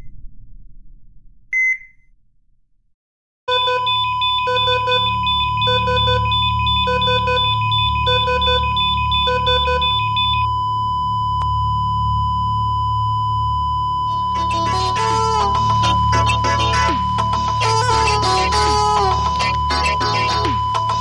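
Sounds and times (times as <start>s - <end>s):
monitor alarm beeps: 1.5s - 2.0s, 3.5s - 21.0s
continuous flatline tone: 3.5s - 21.0s.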